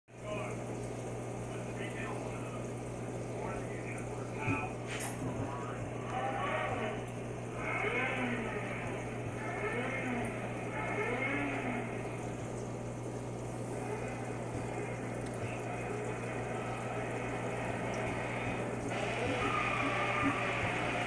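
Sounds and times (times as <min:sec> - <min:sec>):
aquarium filter hum: 0:00.1 - 0:21.0
trickle of moving water: 0:00.1 - 0:21.0.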